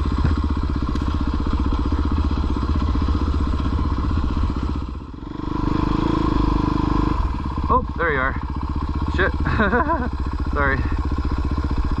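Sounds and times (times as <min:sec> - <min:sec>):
dirt bike engine: 0:00.0 - 0:12.0.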